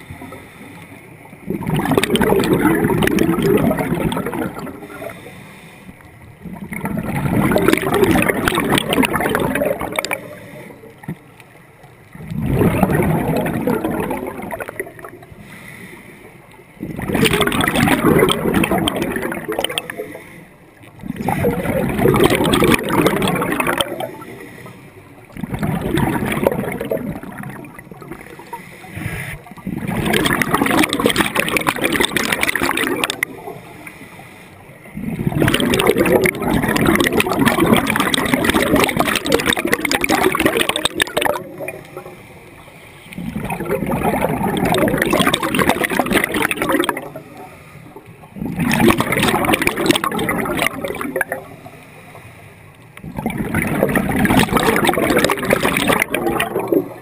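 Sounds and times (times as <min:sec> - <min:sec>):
underwater breathing bubbles: 0:00.0 - 0:11.2, 0:12.0 - 0:57.0.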